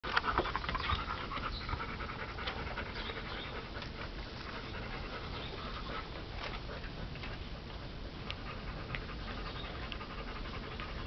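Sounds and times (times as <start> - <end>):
puppy panting: 0.0 - 11.0.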